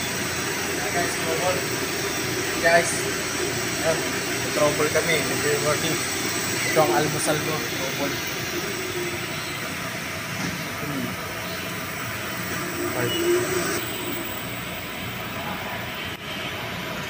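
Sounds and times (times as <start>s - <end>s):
machinery rumble with hiss: 0.0s - 17.0s.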